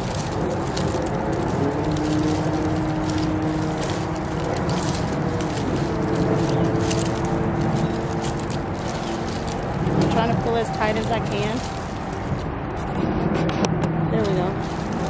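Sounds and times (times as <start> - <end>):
leafy branches rustling and crackling: 0.0 - 15.0
steady low rumble: 0.0 - 15.0.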